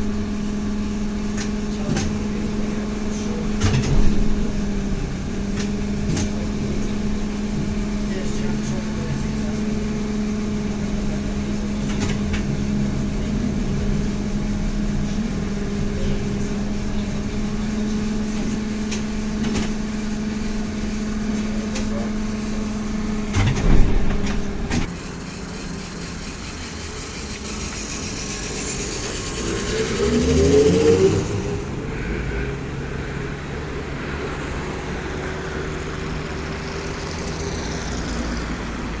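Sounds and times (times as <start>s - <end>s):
trolleybus electrical hum: 0.0s - 39.0s
trolleybus rising whine: 0.0s - 39.0s.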